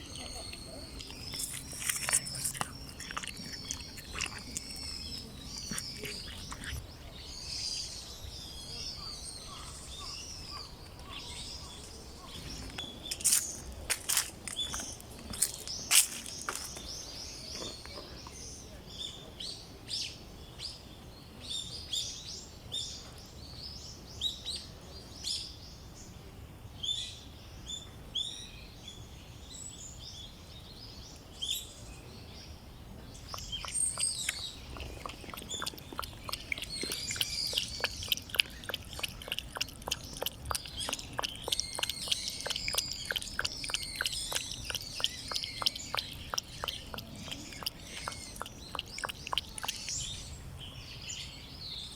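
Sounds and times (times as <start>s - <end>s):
small birds chirping: 0.0s - 20.7s, 29.4s - 51.9s.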